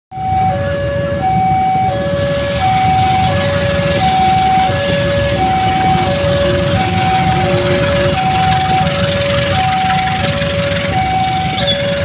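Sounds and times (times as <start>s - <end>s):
motorcycle engines idling: 0.2s - 12.0s.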